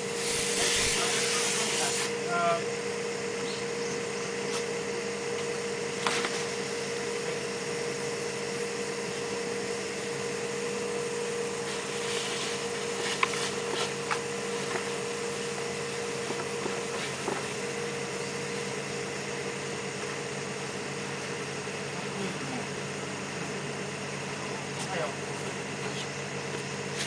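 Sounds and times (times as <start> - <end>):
ventilation blower humming: 0.0 - 27.0.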